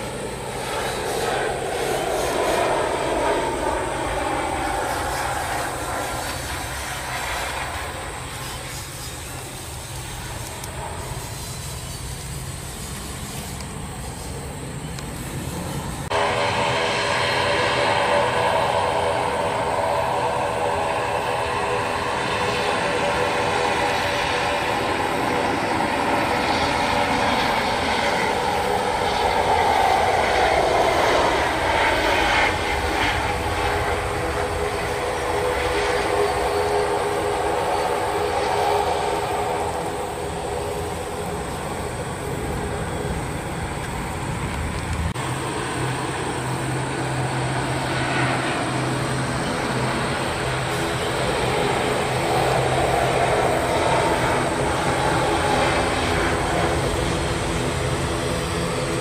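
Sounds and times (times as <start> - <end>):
jet engines whining and rumbling: 0.0 - 59.0.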